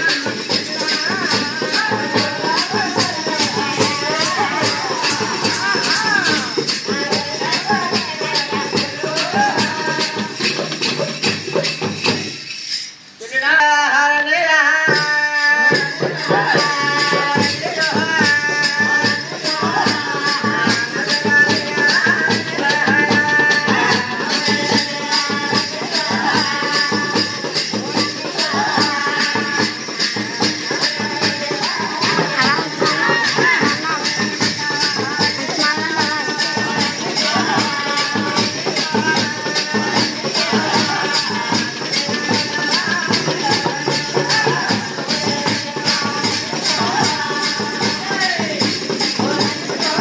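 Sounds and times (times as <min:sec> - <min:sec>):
frame drum: 0:00.0 - 0:12.6, 0:14.9 - 0:50.0
hand cymbals: 0:00.0 - 0:50.0.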